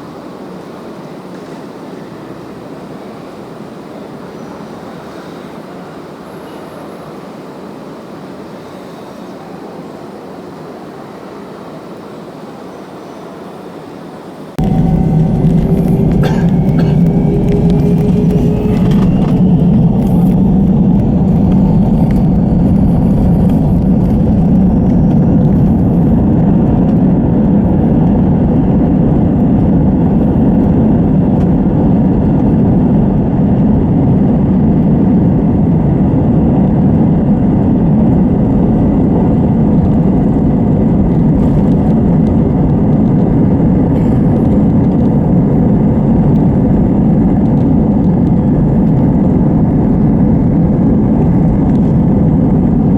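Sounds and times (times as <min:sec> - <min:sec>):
faint steady whine: 0:00.0 - 0:52.9
jet engine cabin rumble: 0:00.0 - 0:52.9.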